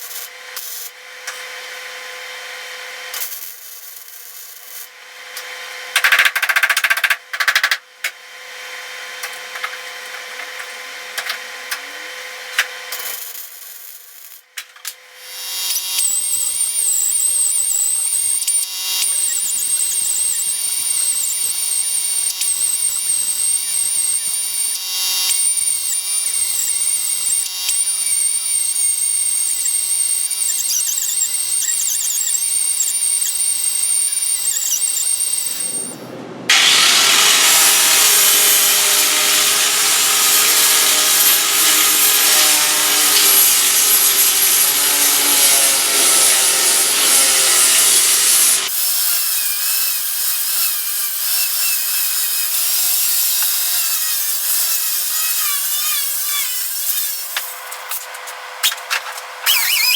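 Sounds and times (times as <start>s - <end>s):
power tools on sheet metal: 0.0s - 59.9s
tool running with high whine: 0.0s - 59.9s.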